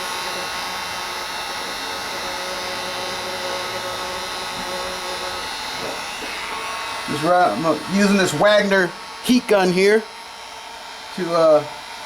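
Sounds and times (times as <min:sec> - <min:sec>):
heat gun fan whine: 0:00.0 - 0:12.0.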